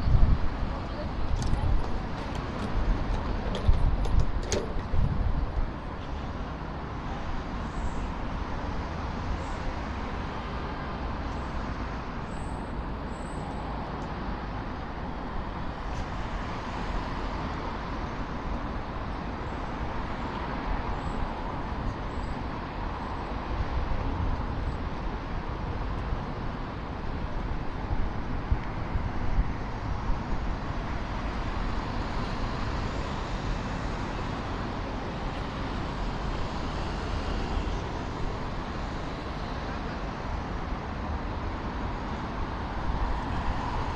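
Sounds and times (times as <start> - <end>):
road traffic: 0.0 - 43.9.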